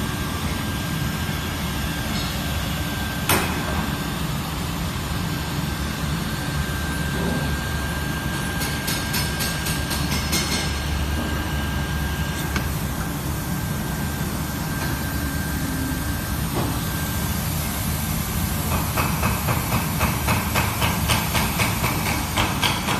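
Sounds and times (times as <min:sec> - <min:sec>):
hot-air welder blower hissing: 0:00.0 - 0:22.9.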